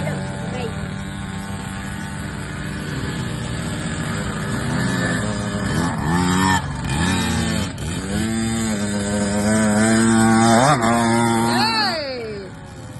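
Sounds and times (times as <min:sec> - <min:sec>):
motocross bike engine revving: 0:00.0 - 0:12.9.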